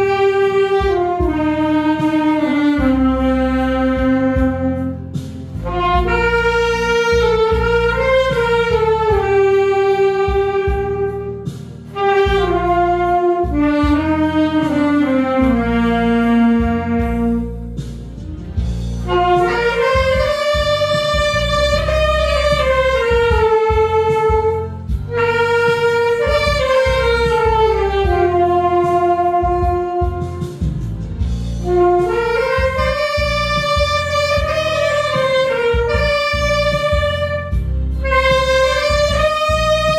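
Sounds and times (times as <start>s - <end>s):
backing accompaniment: 0.0s - 39.9s
saxophone melody: 0.0s - 39.9s.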